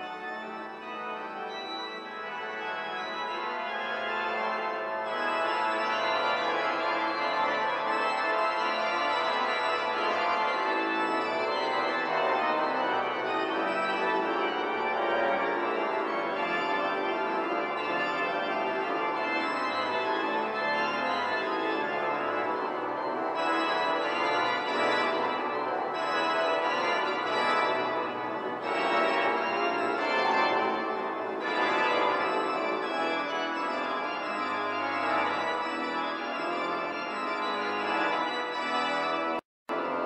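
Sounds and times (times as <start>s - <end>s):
church organ playing: 0.0s - 40.0s.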